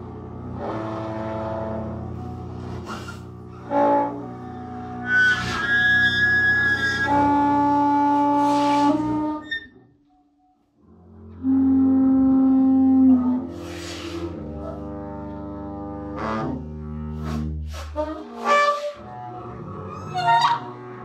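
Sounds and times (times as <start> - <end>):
bass trombone: 0.0 - 9.6, 10.8 - 21.0
bowed double bass: 0.0 - 9.8, 10.8 - 21.0.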